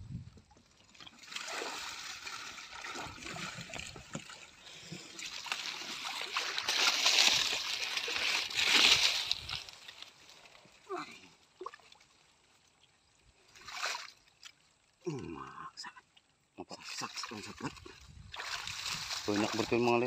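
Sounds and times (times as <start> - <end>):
water splashing and sloshing: 0.3 - 15.0, 16.0 - 20.0.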